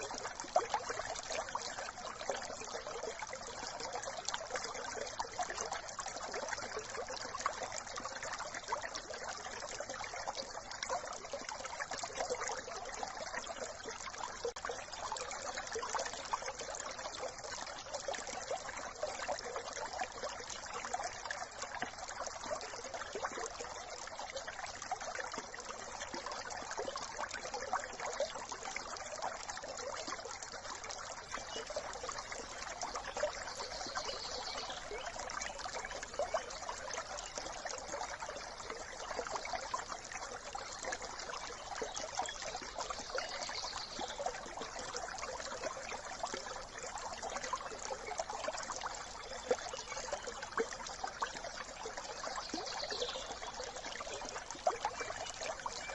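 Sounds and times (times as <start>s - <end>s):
brook water babbling over stones: 0.0s - 55.9s.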